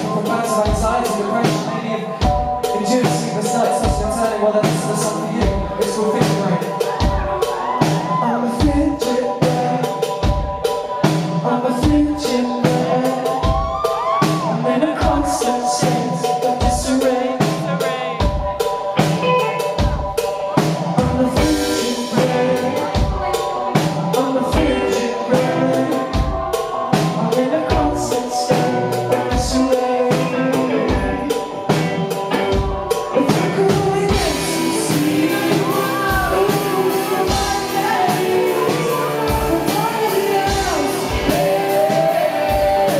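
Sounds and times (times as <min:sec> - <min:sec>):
person singing: 0:00.0 - 0:42.9
pop-rock band playing live: 0:00.0 - 0:42.9.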